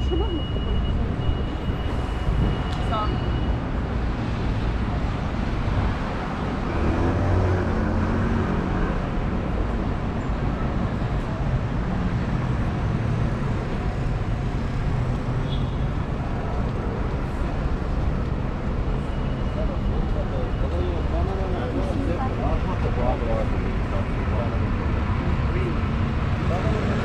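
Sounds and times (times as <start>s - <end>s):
traffic passing: 0.0s - 27.0s.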